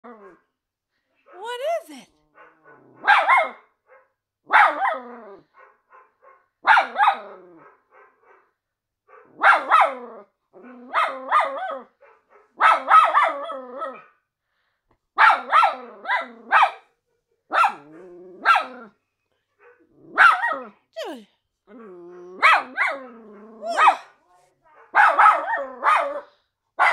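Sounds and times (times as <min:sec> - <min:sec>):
dog barking: 0:01.2 - 0:14.2, 0:15.2 - 0:18.9, 0:19.6 - 0:20.8, 0:22.4 - 0:26.9.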